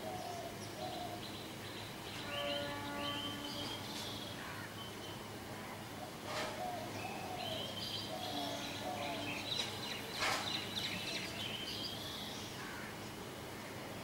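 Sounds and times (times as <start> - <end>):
songbirds chirping and singing: 0.0 - 13.1
steady background hiss: 0.0 - 14.0.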